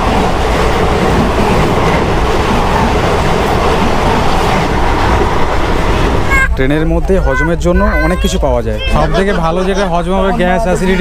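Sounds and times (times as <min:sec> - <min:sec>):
trains rumbling and clattering: 0:00.0 - 0:11.0.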